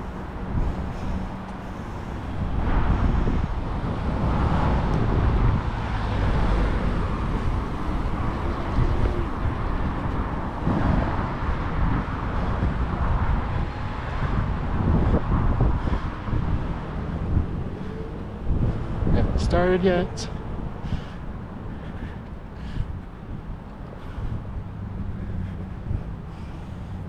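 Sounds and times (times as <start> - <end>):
cars passing: 0.0 - 27.0
wind rumbling on microphone: 0.0 - 27.0.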